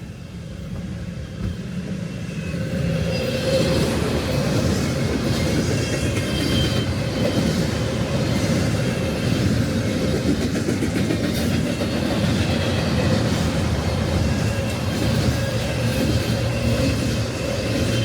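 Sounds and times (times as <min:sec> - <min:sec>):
freight train cars rolling: 0:00.2 - 0:18.0.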